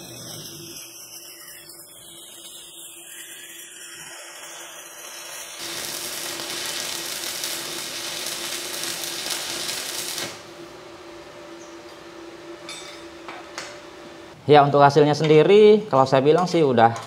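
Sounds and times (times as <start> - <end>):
welding arc noise: 0.0 - 14.4.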